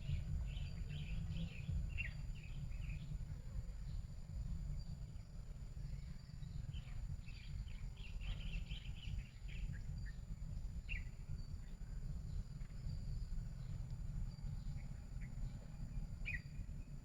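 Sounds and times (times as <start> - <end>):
birds chirping: 0.0 - 17.0
low rumble: 0.0 - 17.0.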